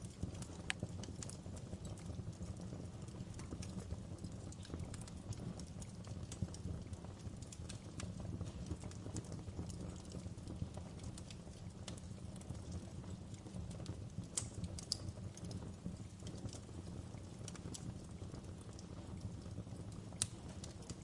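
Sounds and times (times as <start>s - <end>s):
low rumble of flames: 0.0s - 21.0s
wood fire crackling: 0.0s - 21.0s.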